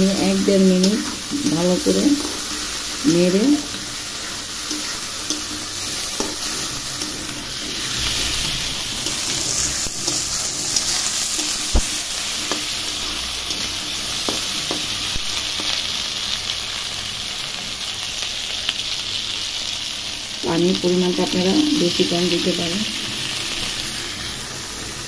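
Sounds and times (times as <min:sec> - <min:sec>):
vegetables sizzling in hot oil: 0:00.0 - 0:25.0.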